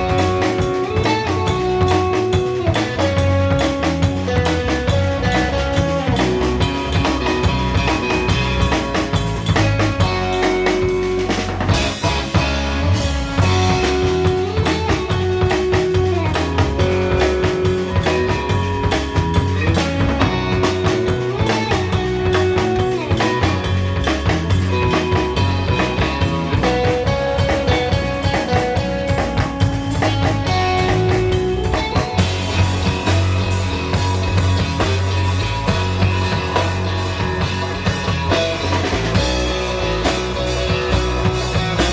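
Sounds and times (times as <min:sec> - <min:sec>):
bass guitar: 0:00.0 - 0:41.9
drum kit beat: 0:00.0 - 0:41.9
electric guitar melody: 0:00.0 - 0:41.9.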